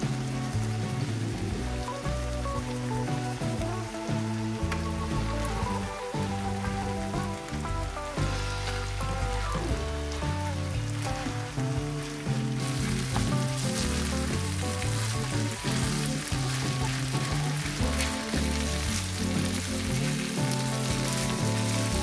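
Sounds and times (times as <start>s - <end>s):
background music: 0.0s - 22.0s
rice sizzling in frying pan: 0.0s - 22.0s.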